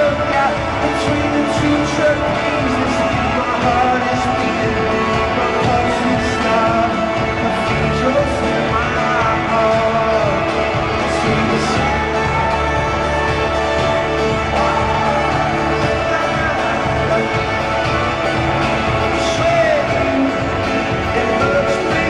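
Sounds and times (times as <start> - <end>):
live rock band playing: 0.0 - 22.0
wordless singing: 0.0 - 22.0.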